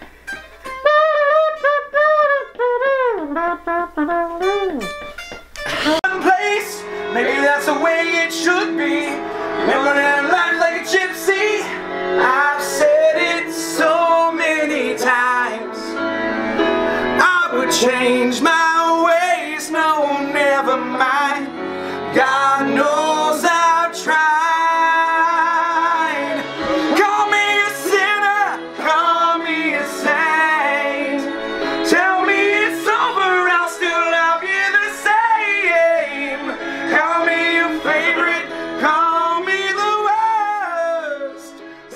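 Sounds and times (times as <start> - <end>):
instrumental backing music: 0.0 - 41.9
person singing: 0.8 - 5.0, 5.6 - 41.9.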